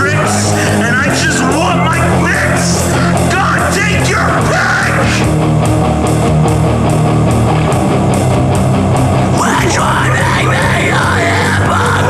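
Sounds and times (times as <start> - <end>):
distorted electric guitars: 0.0 - 12.0
steady drum beat: 0.0 - 12.0.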